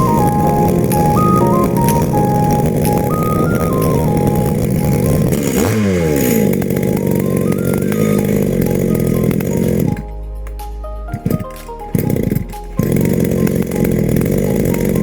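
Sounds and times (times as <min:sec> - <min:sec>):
chainsaw engine revving: 0:00.0 - 0:10.1, 0:11.1 - 0:15.0.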